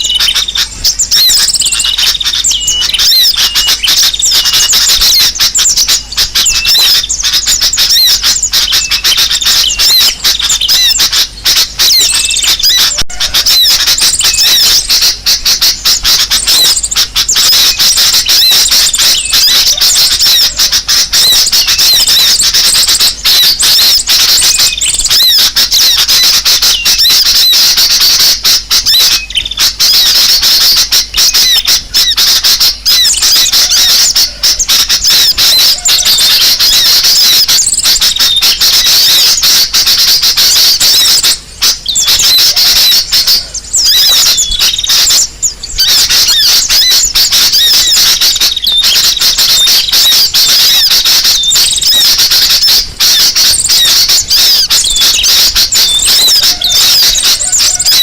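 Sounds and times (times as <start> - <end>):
many small birds chirping: 0.0 - 58.0.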